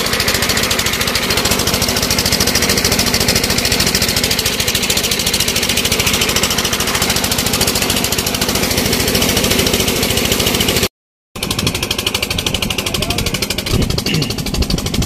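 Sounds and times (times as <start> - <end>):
engine knocking steadily: 0.0 - 15.0.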